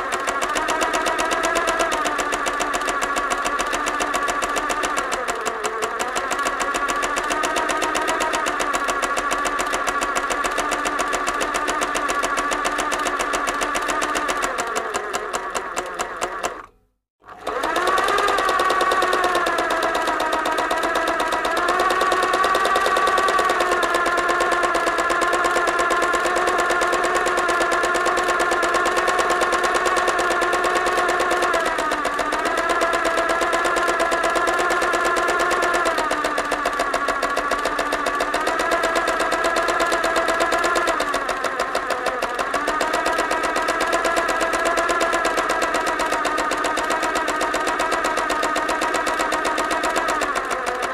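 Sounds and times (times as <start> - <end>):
sewing machine running fast: 0.0 - 50.9.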